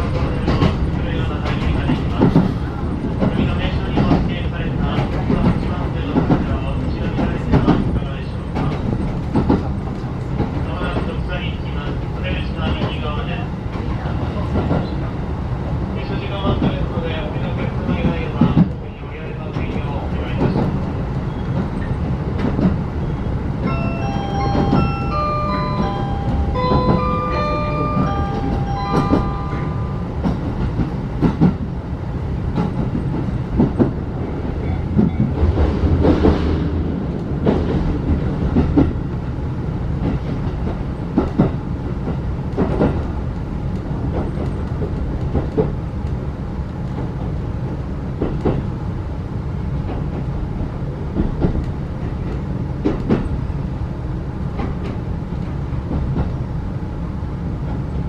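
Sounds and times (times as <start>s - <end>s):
wheels rumbling on track: 0.0s - 58.0s.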